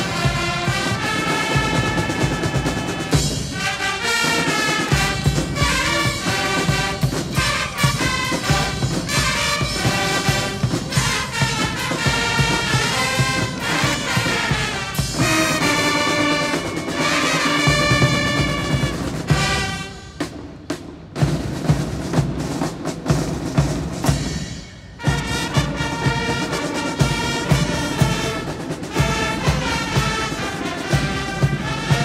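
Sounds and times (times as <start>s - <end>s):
brass band melody: 0.0s - 32.0s.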